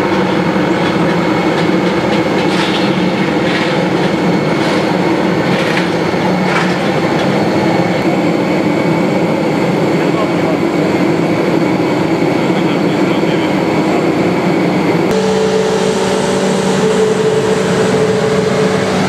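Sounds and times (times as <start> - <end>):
low mechanical drone: 0.0 - 19.0.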